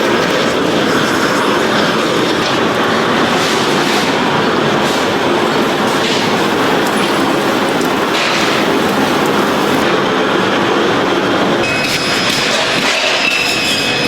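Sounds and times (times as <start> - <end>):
loud factory machinery: 0.0 - 14.0.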